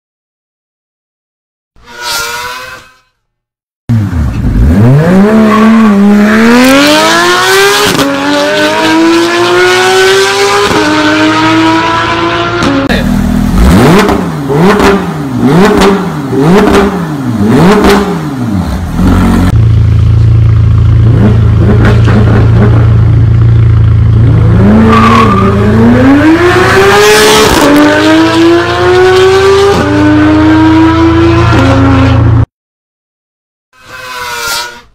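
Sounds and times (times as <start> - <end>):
car engine accelerating and revving: 3.9 - 32.5.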